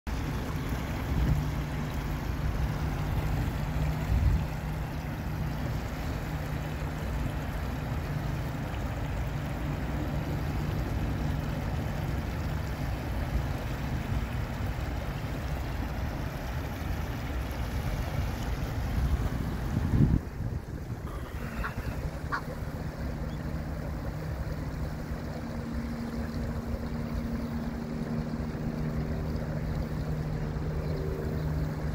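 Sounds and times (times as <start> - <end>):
creek rushing over rocks: 0.1 - 31.9.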